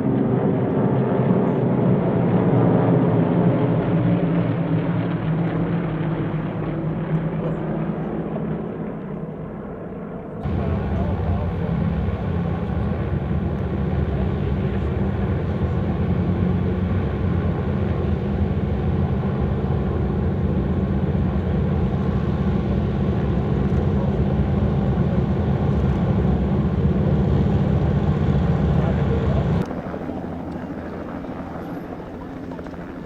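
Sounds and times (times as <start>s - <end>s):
piston aircraft engines running: 0.0s - 33.0s.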